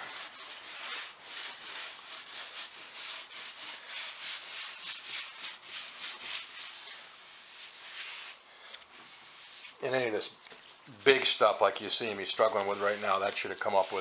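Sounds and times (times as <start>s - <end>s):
rag rubbing on wood: 0.0s - 10.3s, 11.9s - 14.0s.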